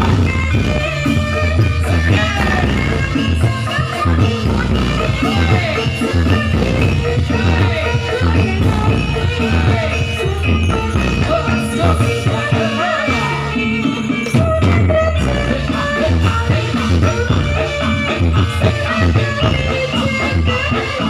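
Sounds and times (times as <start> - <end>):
driving bass beat: 0.0 - 21.0
person singing: 0.0 - 21.0.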